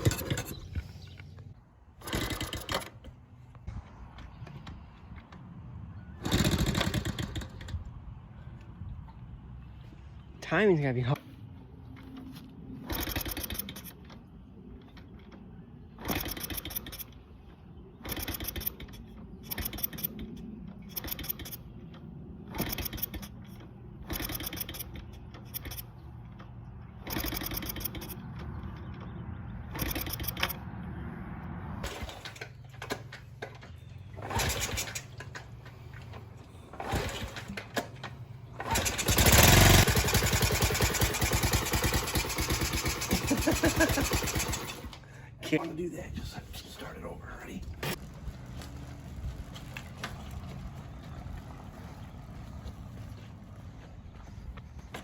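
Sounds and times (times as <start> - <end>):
minibike engine kick-started and running: 0.0 - 1.4, 2.0 - 3.7, 4.3 - 7.9, 12.0 - 31.0, 31.8 - 45.3, 47.8 - 55.0.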